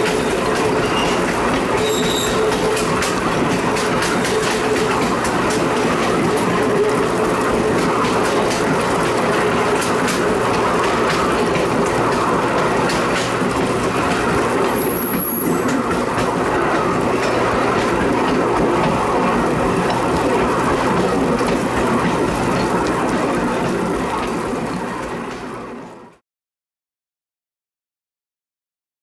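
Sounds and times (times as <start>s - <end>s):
wheel clicks over rail: 0.0s - 25.5s
train rumbling along track: 0.0s - 26.2s.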